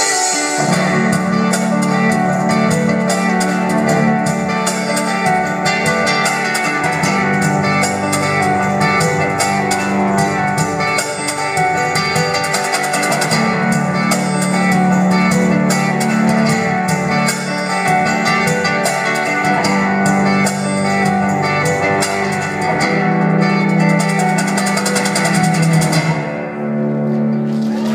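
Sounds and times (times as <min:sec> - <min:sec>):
acoustic guitar: 0:00.0 - 0:27.9
drums: 0:00.0 - 0:27.9
keyboard: 0:00.0 - 0:27.9.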